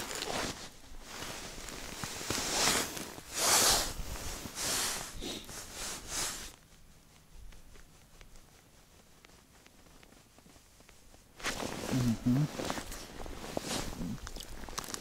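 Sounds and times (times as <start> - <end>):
winter clothing rustling: 0.0 - 15.0.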